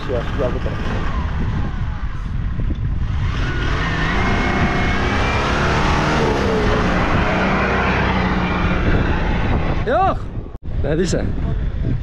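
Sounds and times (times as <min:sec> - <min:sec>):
suv engine revving: 0:00.0 - 0:09.9.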